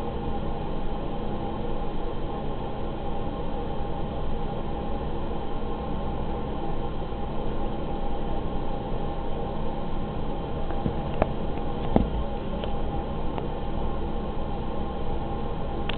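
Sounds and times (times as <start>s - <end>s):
faint even hum: 0.0s - 15.9s.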